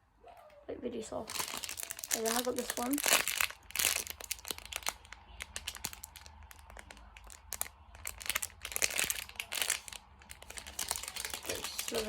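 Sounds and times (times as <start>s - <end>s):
plastic packaging crinkling: 1.2s - 12.0s.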